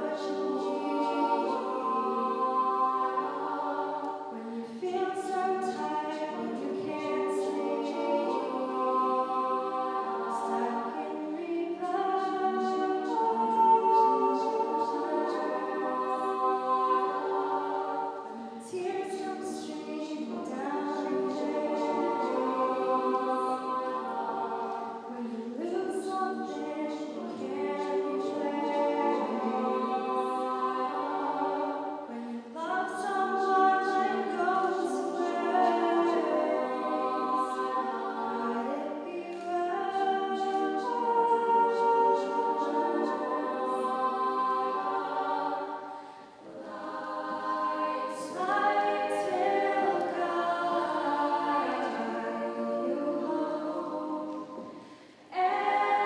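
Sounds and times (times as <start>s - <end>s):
women singing a cappella: 0.0s - 56.0s.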